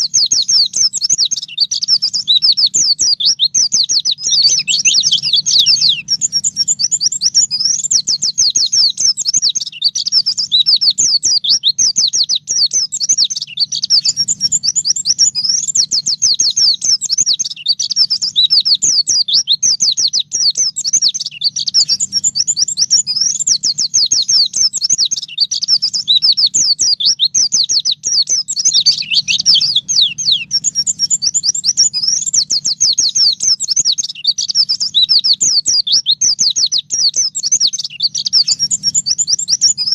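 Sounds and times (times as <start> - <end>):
bird rapid twittering song: 0.0 - 39.9.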